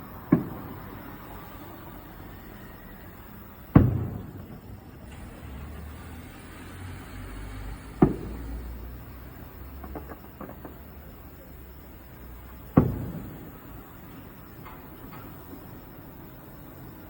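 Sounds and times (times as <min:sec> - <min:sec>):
fireworks shells booming: 0:00.0 - 0:17.0.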